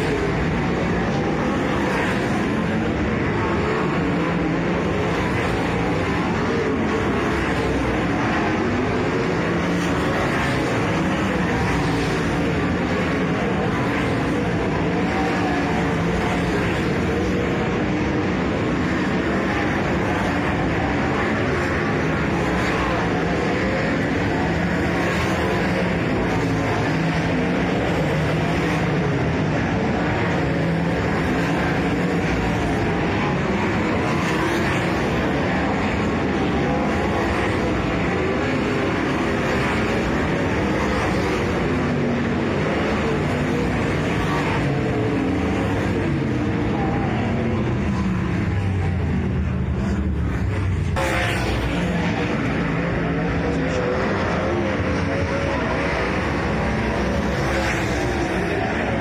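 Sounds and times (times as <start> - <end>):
race car engines: 0.0 - 59.0.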